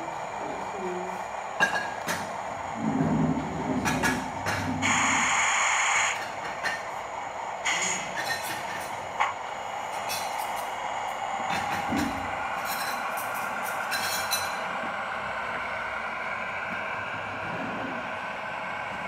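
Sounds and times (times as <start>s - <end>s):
model locomotive hum: 0.0s - 19.0s.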